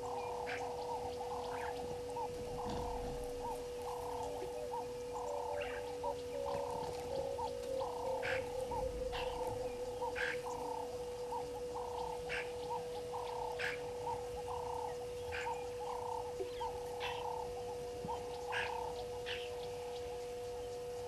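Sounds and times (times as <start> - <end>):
frogs croaking in chorus: 0.0 - 21.0
steady hum: 0.0 - 21.0.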